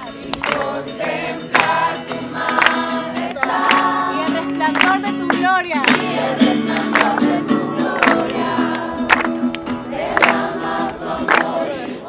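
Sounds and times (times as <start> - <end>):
group singing worship song: 0.0 - 4.9, 5.9 - 12.0
music with sharp beat: 0.0 - 11.6.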